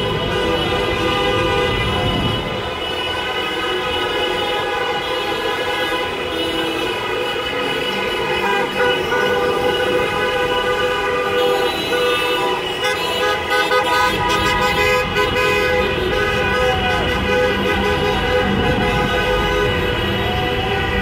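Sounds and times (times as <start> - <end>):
low traffic rumble: 0.0 - 21.0
many car horns honking: 0.0 - 21.0.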